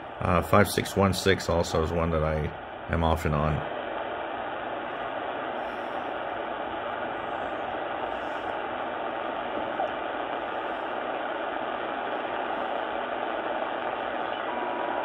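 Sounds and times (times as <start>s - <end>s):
radio static hissing: 0.0s - 15.0s.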